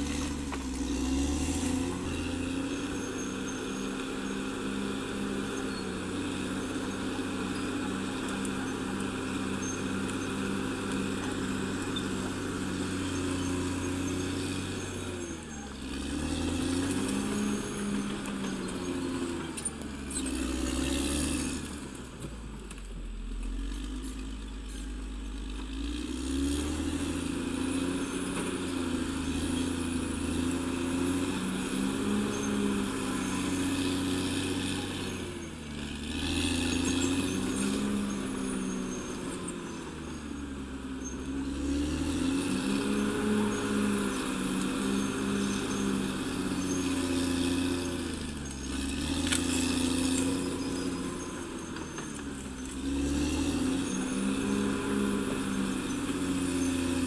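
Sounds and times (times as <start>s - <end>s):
bulldozer diesel engine working: 0.0s - 57.0s.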